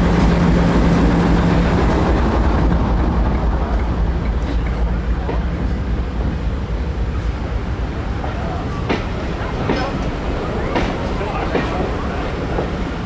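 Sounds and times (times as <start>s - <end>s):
diesel locomotive rumbling: 0.0s - 13.0s.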